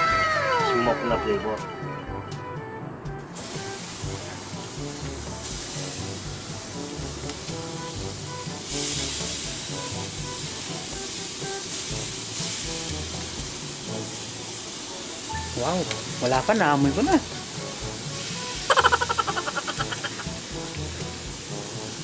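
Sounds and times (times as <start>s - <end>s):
background music with beat: 0.0s - 14.4s, 15.3s - 22.0s
meat sizzling on a grill: 3.3s - 22.0s.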